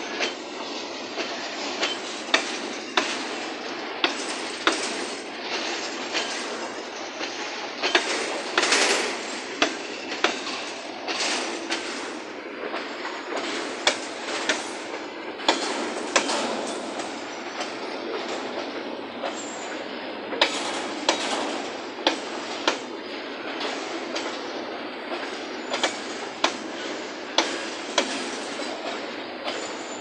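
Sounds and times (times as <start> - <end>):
freight wagons rumbling and rattling: 0.0 - 30.0
wheels clacking over rail joints: 0.0 - 30.0.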